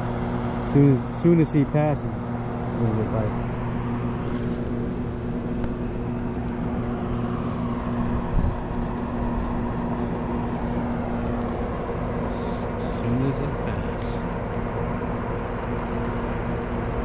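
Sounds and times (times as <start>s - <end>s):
boat engine drone: 0.0s - 17.0s.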